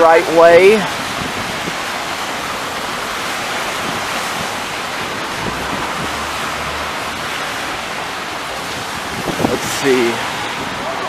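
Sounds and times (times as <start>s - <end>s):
rain falling on street: 0.0s - 11.0s.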